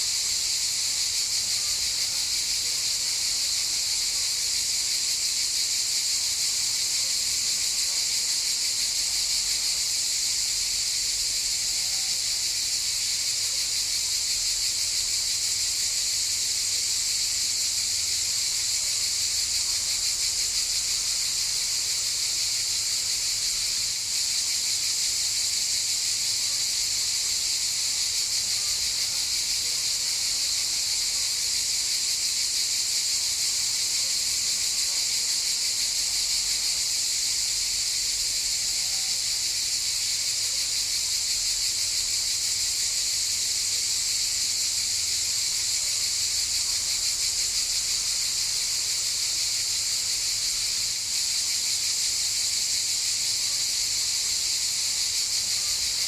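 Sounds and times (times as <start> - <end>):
cicadas buzzing: 0.0 - 6.6, 7.8 - 56.0.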